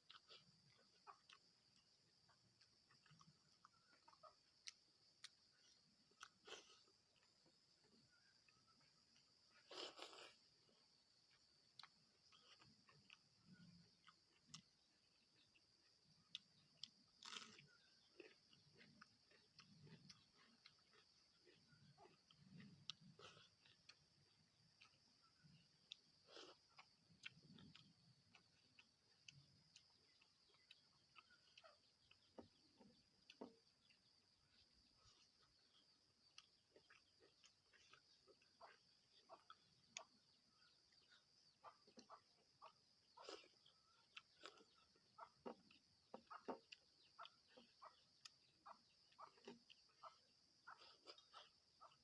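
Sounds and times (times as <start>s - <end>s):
person chewing: 0.0s - 52.0s.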